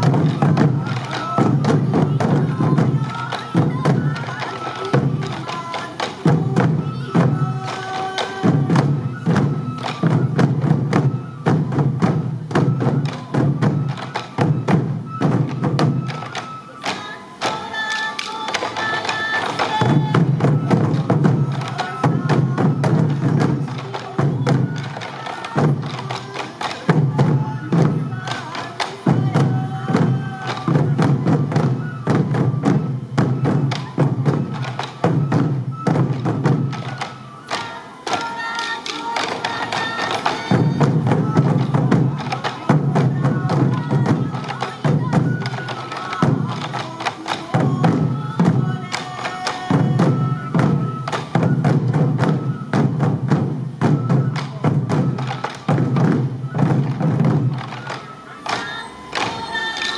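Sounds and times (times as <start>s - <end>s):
bamboo flute melody: 0.0s - 59.9s
taiko drums beaten with sticks: 0.0s - 59.9s.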